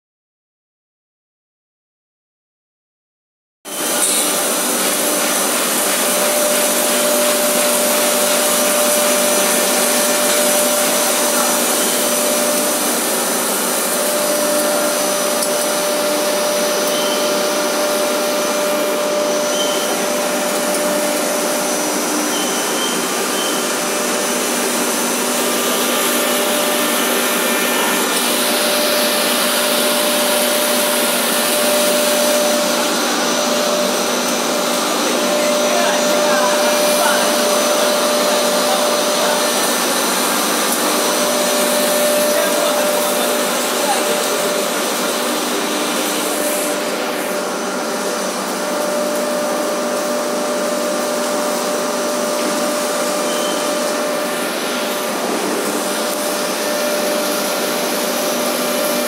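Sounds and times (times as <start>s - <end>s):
extrusion machine whirring: 3.7s - 59.0s.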